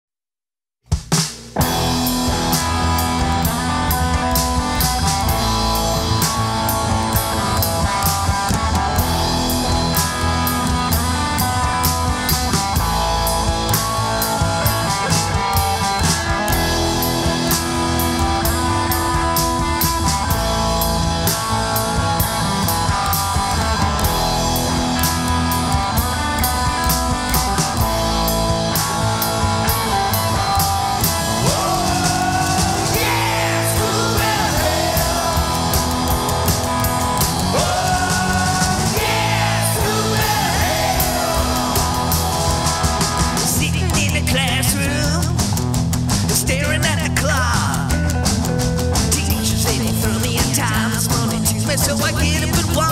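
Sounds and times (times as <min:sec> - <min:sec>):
drum kit beat: 0:00.8 - 0:52.9
electric guitars: 0:01.6 - 0:52.9.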